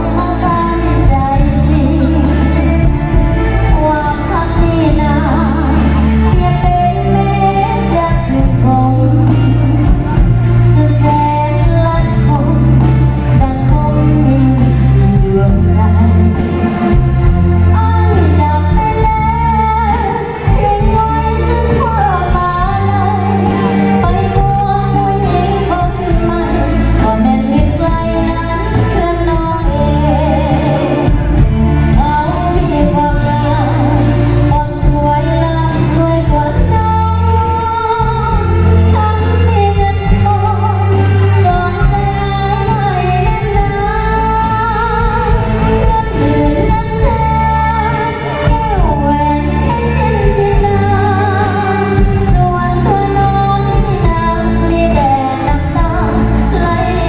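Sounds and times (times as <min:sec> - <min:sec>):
amplified band playing: 0:00.0 - 0:57.0
woman singing pop song: 0:00.0 - 0:57.0.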